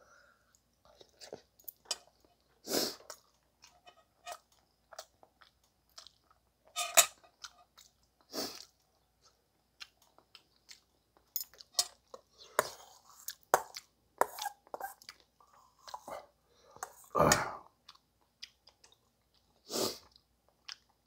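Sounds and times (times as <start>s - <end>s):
person chewing rice: 0.5s - 21.0s.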